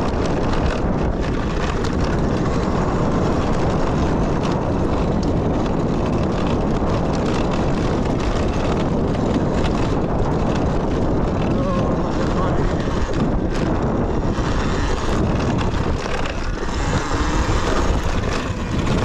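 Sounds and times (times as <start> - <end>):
rolling noise: 0.0 - 19.0
wind buffeting microphone: 0.0 - 19.0.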